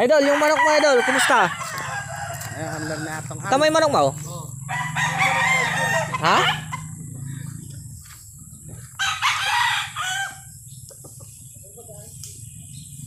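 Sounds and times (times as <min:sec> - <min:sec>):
roosters crowing: 0:00.0 - 0:11.7.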